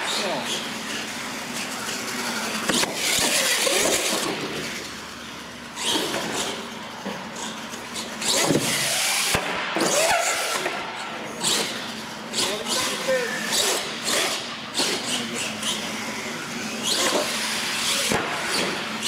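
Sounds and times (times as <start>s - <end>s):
toy truck motor whining: 0.1s - 4.9s, 5.6s - 6.7s, 7.3s - 19.0s.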